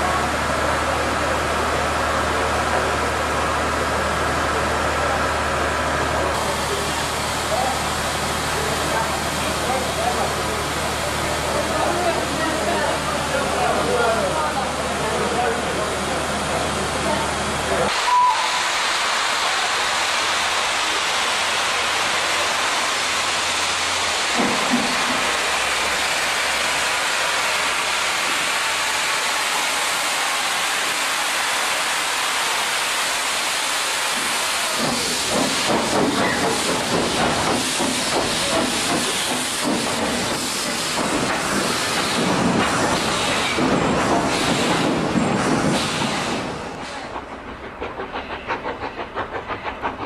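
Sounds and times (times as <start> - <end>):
steam locomotive hissing: 0.0 - 50.0.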